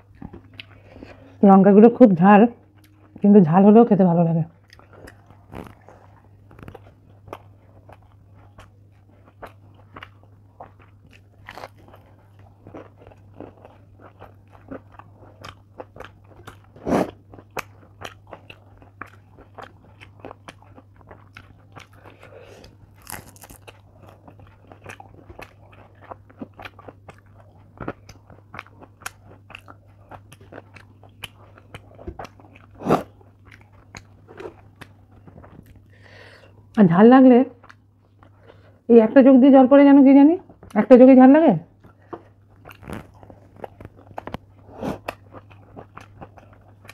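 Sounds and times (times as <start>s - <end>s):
chewing and crunching food: 0.0s - 3.8s, 4.4s - 36.9s, 37.5s - 38.9s, 41.6s - 46.9s.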